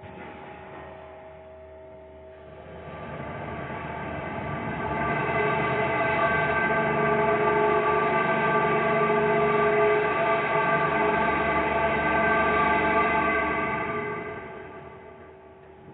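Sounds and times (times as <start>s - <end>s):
drone of held tones: 3.1s - 15.9s.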